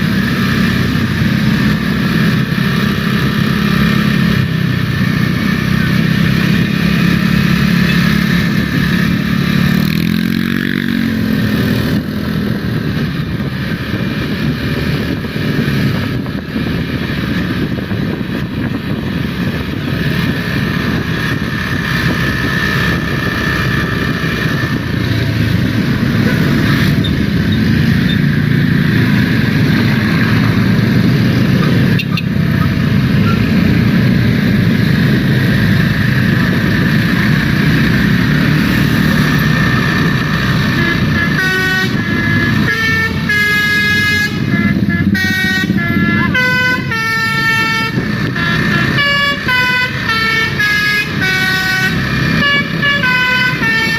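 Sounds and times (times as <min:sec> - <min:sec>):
bus engine running: 0:00.0 - 0:53.9
road traffic: 0:00.0 - 0:53.9
vehicle engine revving: 0:00.0 - 0:53.9.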